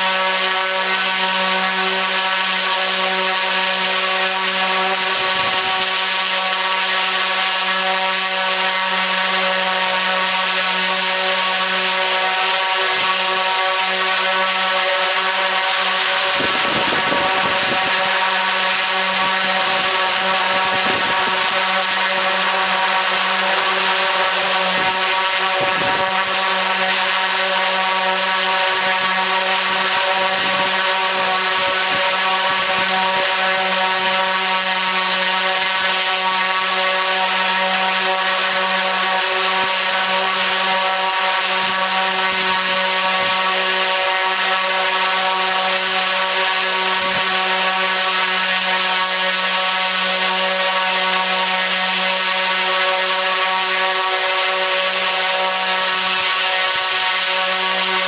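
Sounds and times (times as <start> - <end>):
propeller drone: 0.0 - 58.0.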